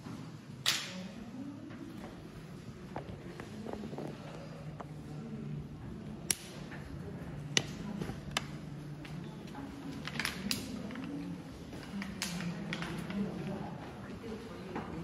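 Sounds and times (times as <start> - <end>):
murmur of voices: 0.6 - 15.0.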